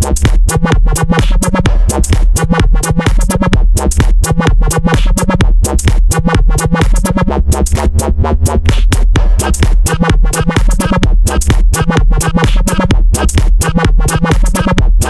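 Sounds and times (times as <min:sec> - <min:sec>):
drum-machine beat: 0:00.0 - 0:15.0
heavy bass line: 0:00.0 - 0:15.0.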